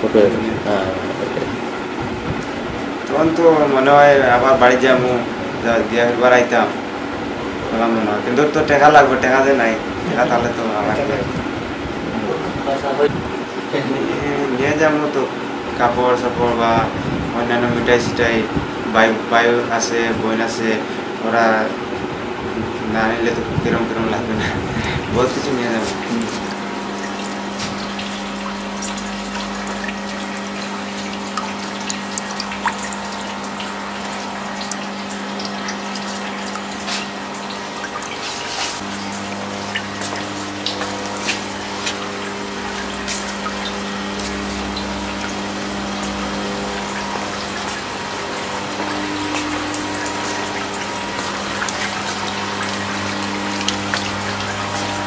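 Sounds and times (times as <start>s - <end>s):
steady low hum: 0.0s - 55.0s
water running and dripping: 0.0s - 55.0s.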